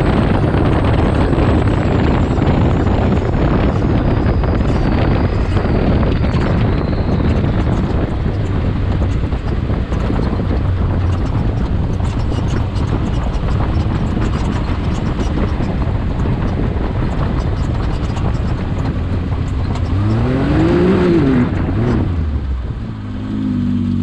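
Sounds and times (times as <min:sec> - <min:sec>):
engine running steadily: 0:00.0 - 0:24.0
wind noise on microphone: 0:00.0 - 0:24.0.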